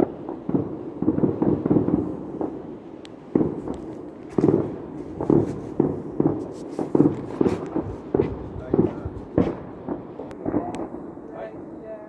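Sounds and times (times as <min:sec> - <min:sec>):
fireworks bangs and pops: 0:00.0 - 0:11.8
fireworks crackling: 0:00.0 - 0:12.0.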